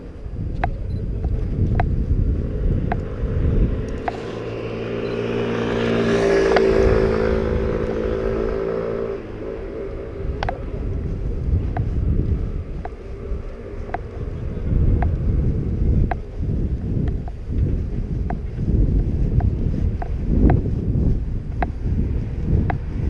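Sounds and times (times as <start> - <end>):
passing vehicle engine hum: 0.0 - 23.0
wind rumble on microphone: 0.0 - 23.0.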